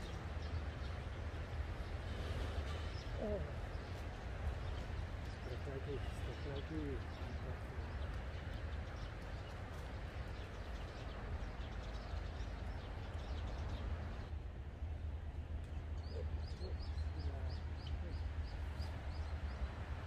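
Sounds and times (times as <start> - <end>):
steady low rumble: 3.0 - 20.0.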